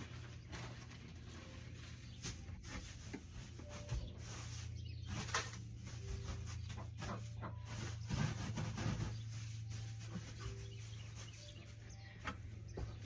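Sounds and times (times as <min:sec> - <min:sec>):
wood shavings rustling: 0:00.0 - 0:11.9.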